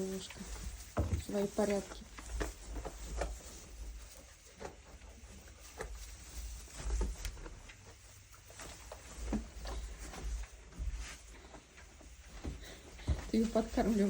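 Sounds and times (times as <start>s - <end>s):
goats rustling hay: 0.0s - 14.0s.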